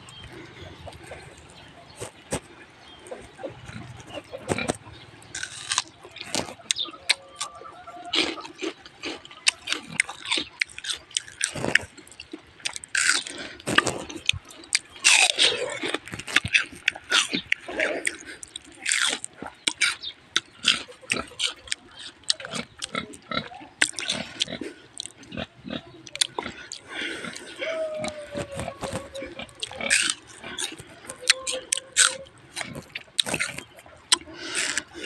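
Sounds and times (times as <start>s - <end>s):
fruit crunching while chewing: 0.0s - 35.0s
mouth clicks: 0.0s - 35.0s.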